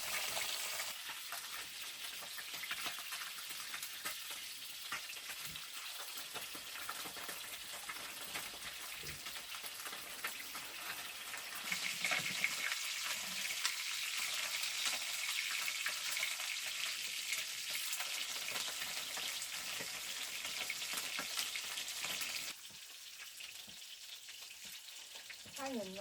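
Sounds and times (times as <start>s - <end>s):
crackling sizzling noise: 0.0s - 26.0s.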